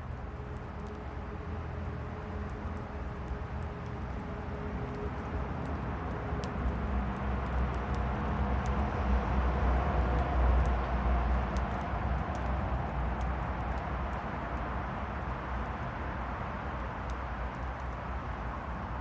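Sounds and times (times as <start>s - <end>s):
fire crackling and popping in stove: 0.0s - 19.0s.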